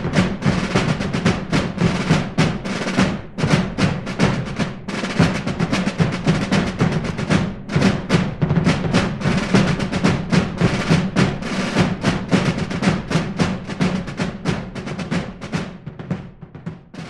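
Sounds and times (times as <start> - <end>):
snare drums marching rhythm: 0.0 - 17.0.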